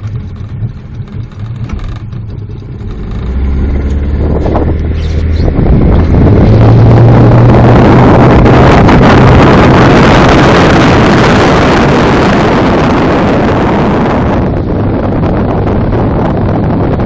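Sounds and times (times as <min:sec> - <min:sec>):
motorboat engine running: 0:00.0 - 0:17.0
wind noise on microphone: 0:00.0 - 0:17.0.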